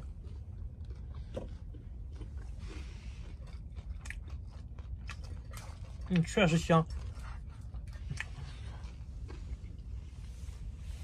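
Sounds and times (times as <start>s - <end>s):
person chewing crunchy food: 0.0s - 10.3s.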